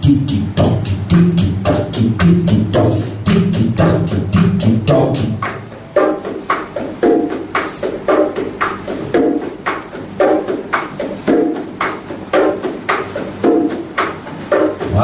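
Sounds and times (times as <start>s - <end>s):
bongos played by hand: 0.0s - 15.0s.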